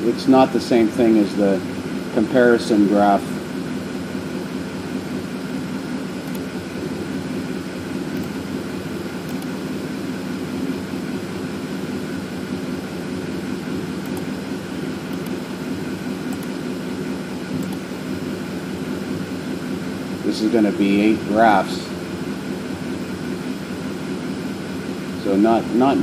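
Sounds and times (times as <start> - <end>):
engine idling with misfire: 0.0 - 26.0.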